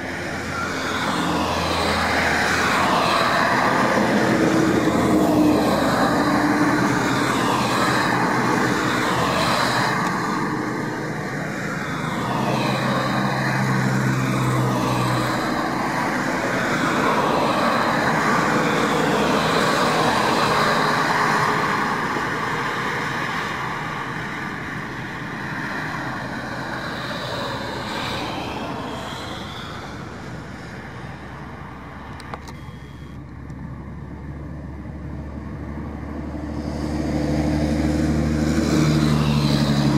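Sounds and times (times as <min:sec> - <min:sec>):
vehicles passing at speed: 0:00.0 - 0:39.9.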